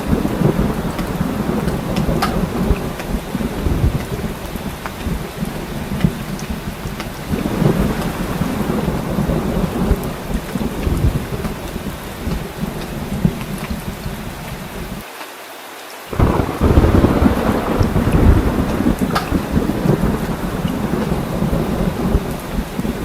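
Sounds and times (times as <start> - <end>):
low rumbling thunder: 0.0 - 15.0, 16.2 - 23.0
heavy rain: 0.0 - 23.0.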